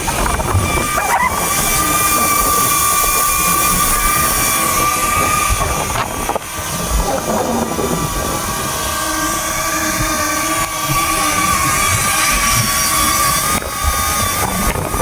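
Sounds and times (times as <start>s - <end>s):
drone propellers whining: 0.0s - 15.0s
wind buffeting microphone: 0.0s - 15.0s.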